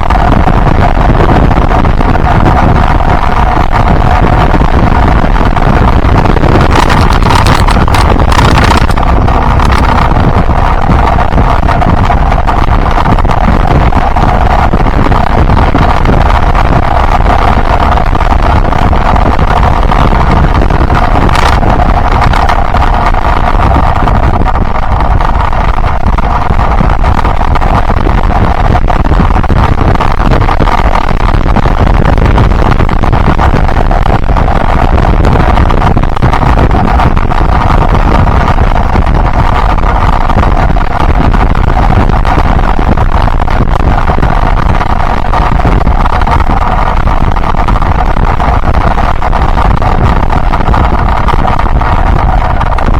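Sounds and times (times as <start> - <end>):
motorcycle engine running: 0.0 - 52.9
wind rush on microphone: 0.0 - 52.9.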